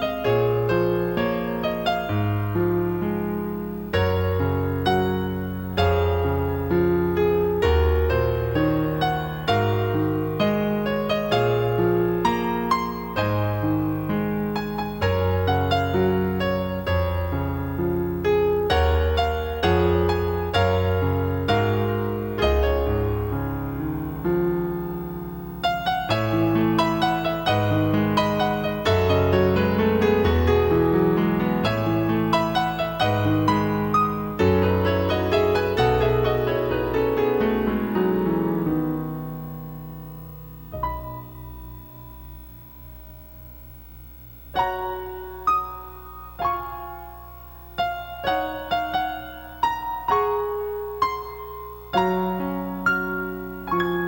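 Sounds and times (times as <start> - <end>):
piano piece with bass line: 0.0 - 54.0.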